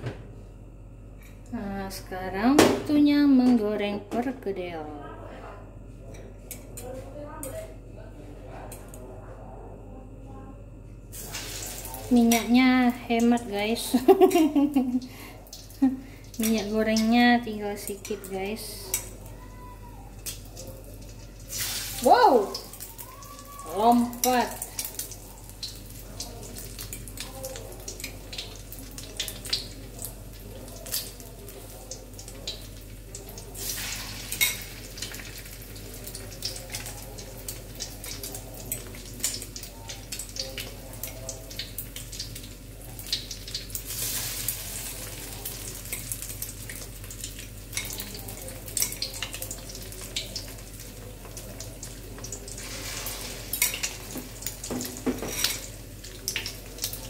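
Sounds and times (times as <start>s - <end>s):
fritters sizzling in oil: 11.1s - 57.0s.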